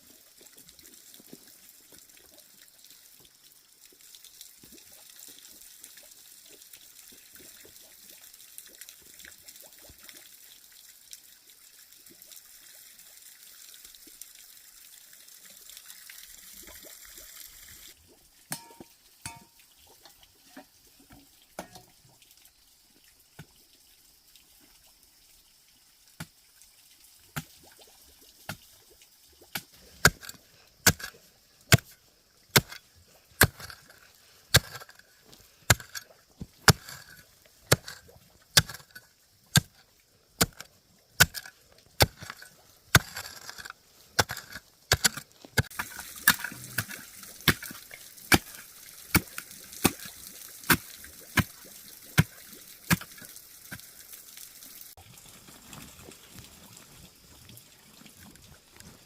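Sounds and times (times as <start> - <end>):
water trickling and pouring: 0.0 - 59.0.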